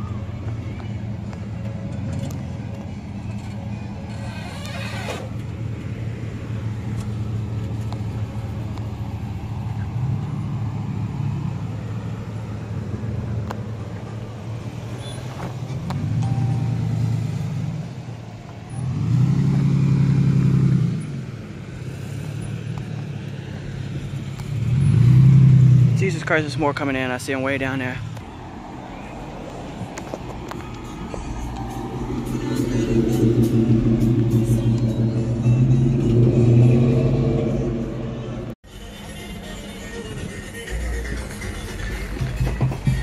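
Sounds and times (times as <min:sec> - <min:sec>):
vehicles passing slowly: 0:00.0 - 0:43.0.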